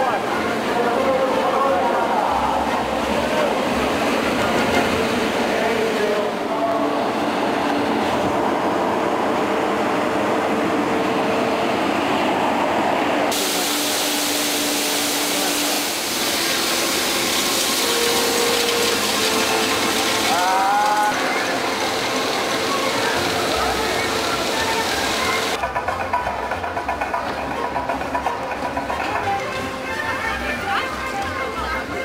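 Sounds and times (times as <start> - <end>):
street sweeper engines and brooms: 0.0 - 32.0.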